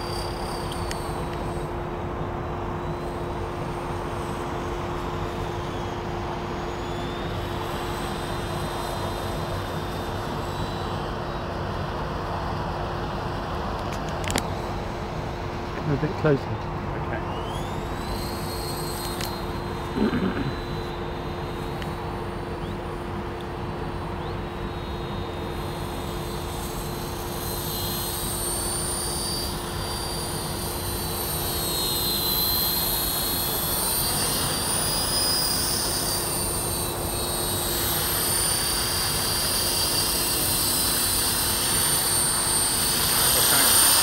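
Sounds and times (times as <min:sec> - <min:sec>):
rc helicopter rotor whine: 0:00.0 - 0:44.0.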